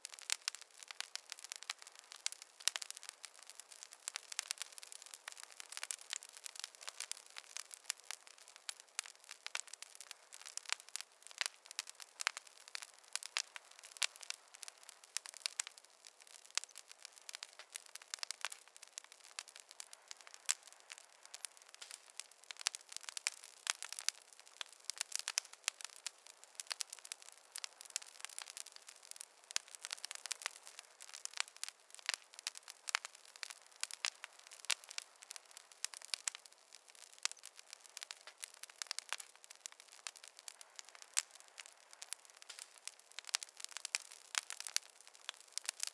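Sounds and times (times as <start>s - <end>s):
campfire crackling: 0.0s - 45.9s.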